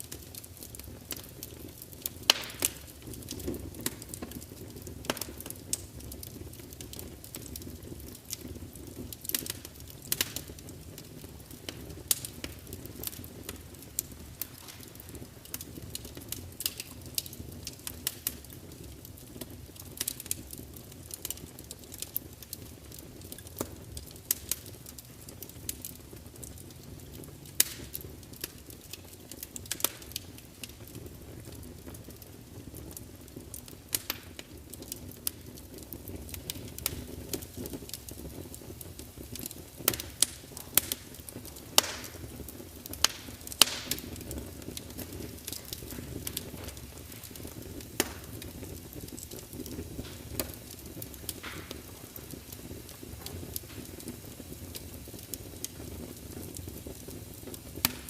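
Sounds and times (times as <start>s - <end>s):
log fire rumbling: 0.0s - 58.0s
wood crackling and popping: 0.0s - 58.0s.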